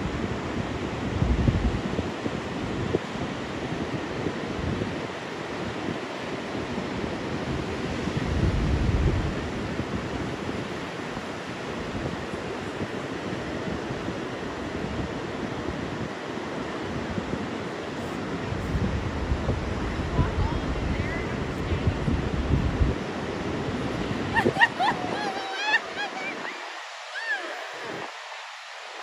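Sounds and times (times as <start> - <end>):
ocean surf breaking: 0.0 - 29.0
wind buffeting microphone: 0.0 - 29.0.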